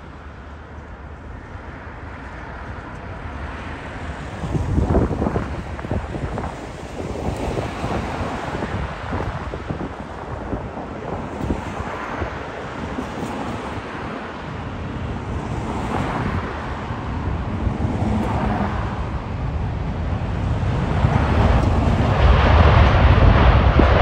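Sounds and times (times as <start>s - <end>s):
jet engines of landing airliner: 0.0s - 24.0s
wind buffeting microphone: 0.0s - 24.0s.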